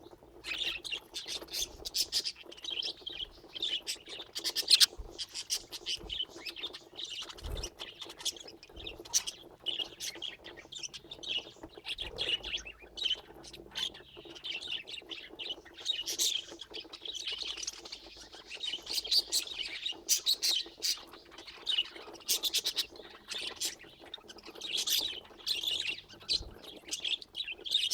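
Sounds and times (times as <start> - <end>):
budgerigars chirping: 0.0 - 27.9.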